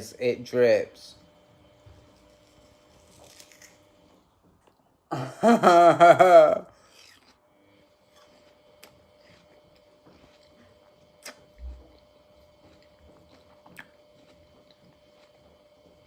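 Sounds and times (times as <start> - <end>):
steady faint hum: 0.0 - 16.0
watermelon being chewed: 1.4 - 5.0, 6.7 - 16.0.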